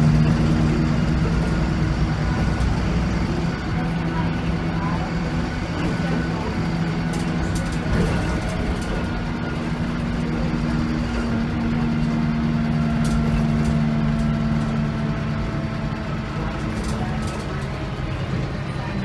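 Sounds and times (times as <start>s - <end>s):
bus diesel engine drone: 0.0s - 19.0s
road rumble: 0.0s - 19.0s.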